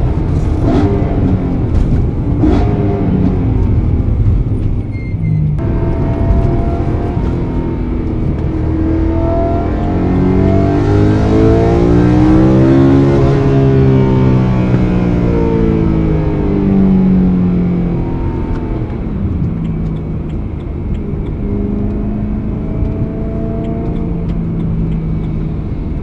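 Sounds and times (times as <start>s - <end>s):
car engine accelerating: 0.0s - 26.0s
low road rumble: 0.0s - 26.0s.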